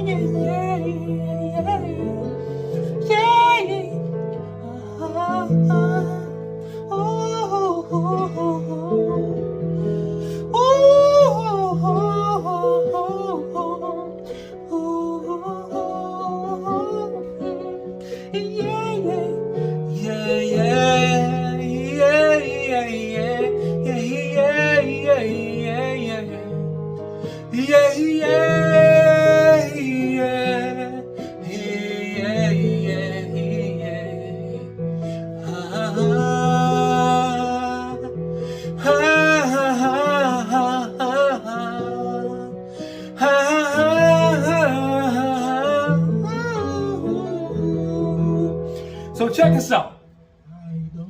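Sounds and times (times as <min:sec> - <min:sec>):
man singing wordless vocal exercise: 0:00.0 - 0:51.0.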